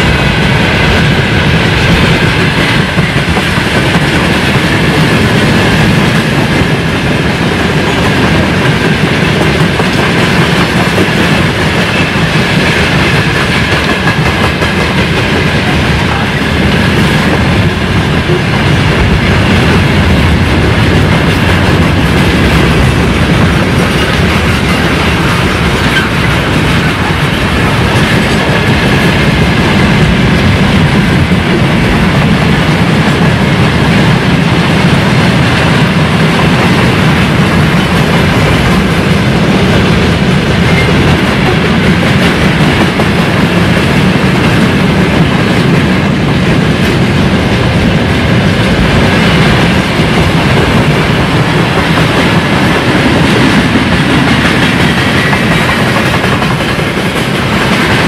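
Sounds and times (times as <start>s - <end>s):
freight train rolling past: 0.0s - 58.0s
steel wheels rumbling on rails: 0.0s - 58.0s.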